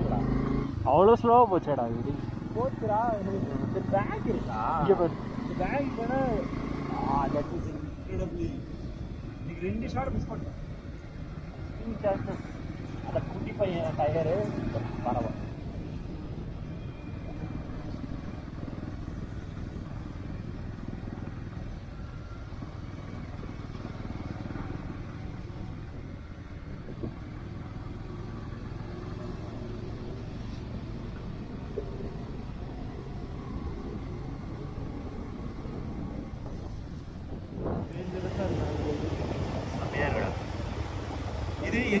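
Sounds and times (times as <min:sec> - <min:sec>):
motorcycle engine running: 0:00.0 - 0:42.0
wind and road noise: 0:00.0 - 0:42.0.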